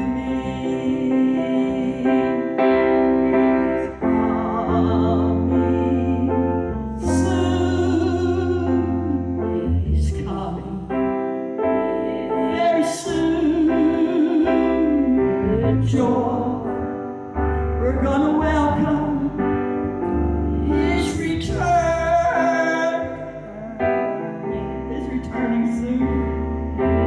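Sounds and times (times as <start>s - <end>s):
piano accompaniment: 0.0s - 27.0s
solo voice singing gospel: 0.0s - 27.0s
steady bass: 0.0s - 27.0s.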